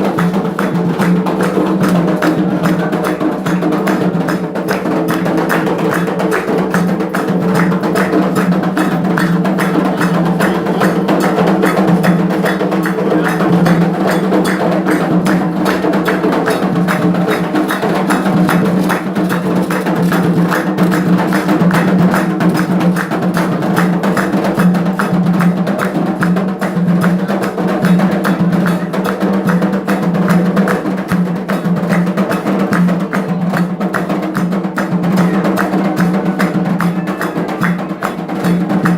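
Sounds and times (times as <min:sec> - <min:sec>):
hand drums: 0:00.0 - 0:38.9.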